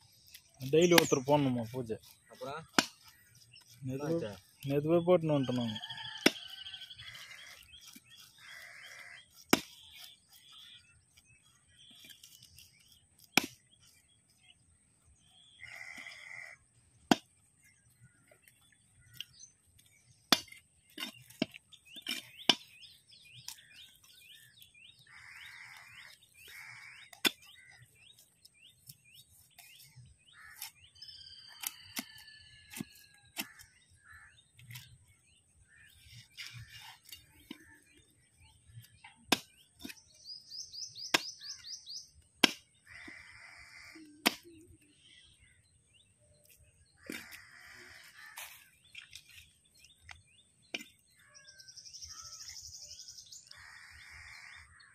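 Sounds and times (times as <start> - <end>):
birds chirping and whistling: 0.0 - 54.9.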